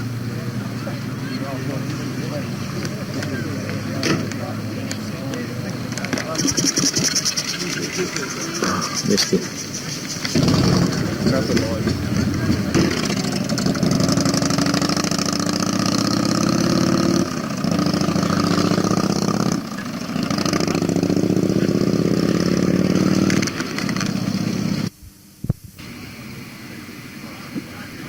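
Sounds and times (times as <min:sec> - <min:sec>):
motorcycle engines revving: 0:00.0 - 0:24.9.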